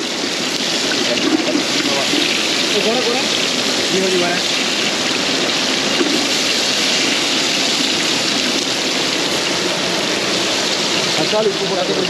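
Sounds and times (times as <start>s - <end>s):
waterfall and stream over rocks: 0.0s - 12.0s.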